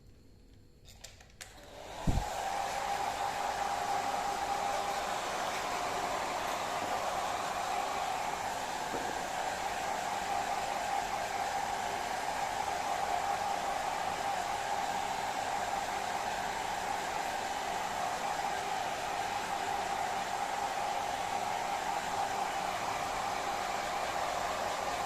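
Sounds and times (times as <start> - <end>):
hair dryer running: 1.6 - 25.0.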